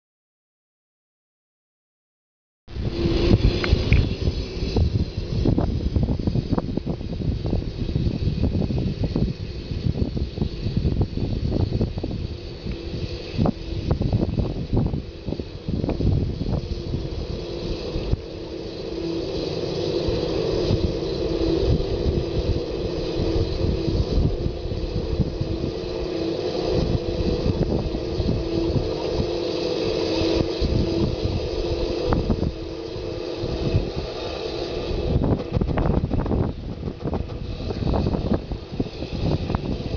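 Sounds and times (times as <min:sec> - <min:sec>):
low rumble: 0:02.7 - 0:39.9
toy tank drive whine: 0:02.7 - 0:39.9.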